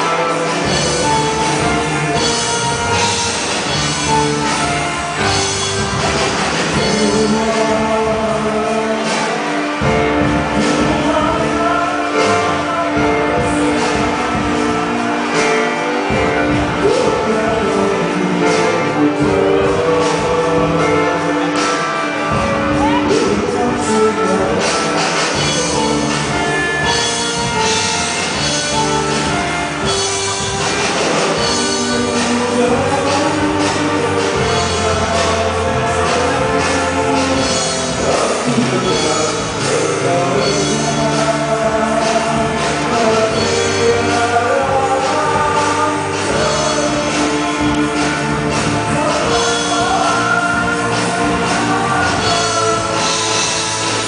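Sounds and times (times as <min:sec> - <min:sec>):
band playing: 0:00.0 - 0:54.0
singer holding long notes: 0:00.0 - 0:54.0.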